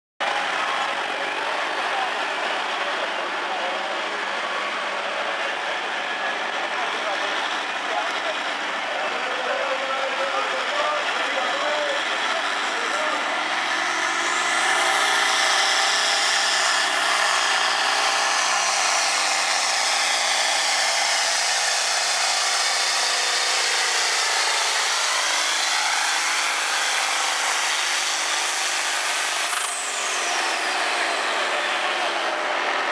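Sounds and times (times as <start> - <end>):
diesel tractor engine under load: 0.2 - 32.9
high turbo whine: 0.2 - 32.9.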